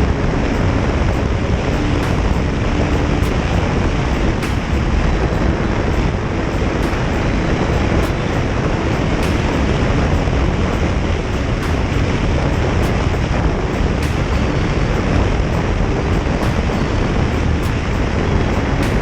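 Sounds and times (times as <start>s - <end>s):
road noise: 0.0s - 19.0s
wind rush over microphone: 0.0s - 19.0s.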